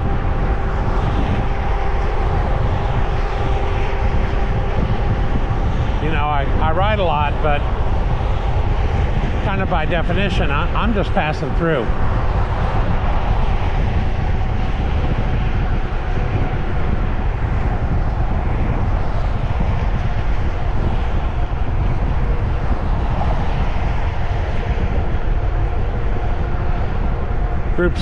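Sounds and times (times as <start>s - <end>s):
wind rumbling over microphone: 0.0s - 28.0s.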